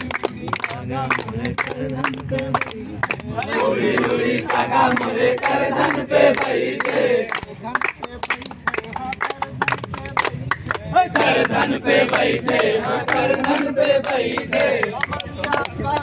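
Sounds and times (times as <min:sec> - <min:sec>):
men singing folk song: 0:00.0 - 0:15.9
hand clapping: 0:00.0 - 0:16.0.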